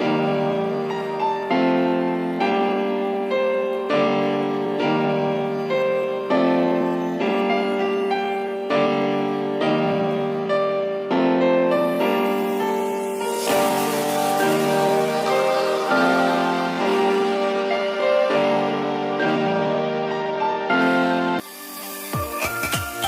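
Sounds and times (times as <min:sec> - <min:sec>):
soft keyboard chords: 0:00.0 - 0:21.5.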